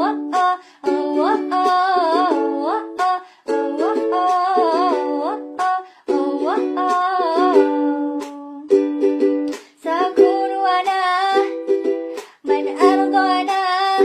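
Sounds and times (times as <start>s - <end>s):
person singing wordless melody: 0.0s - 8.9s, 9.5s - 14.0s
strummed string instrument: 0.0s - 14.0s.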